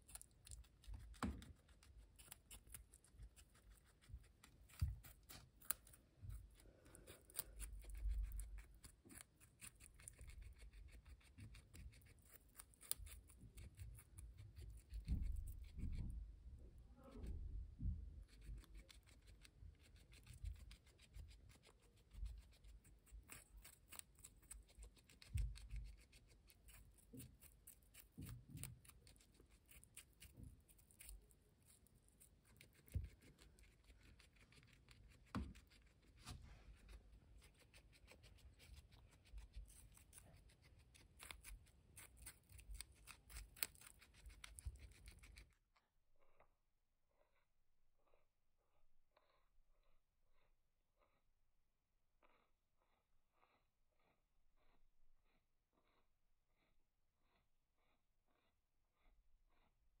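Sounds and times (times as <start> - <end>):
guinea pig crunching and gnawing: 0.0 - 59.8.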